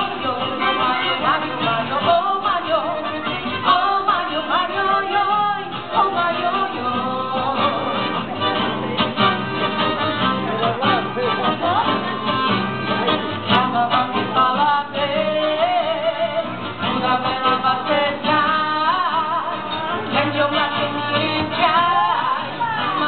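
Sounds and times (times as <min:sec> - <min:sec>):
woman singing with vibrato: 0:00.0 - 0:08.4, 0:10.4 - 0:23.0
accordion: 0:00.0 - 0:23.0
strummed acoustic guitars: 0:00.0 - 0:23.0.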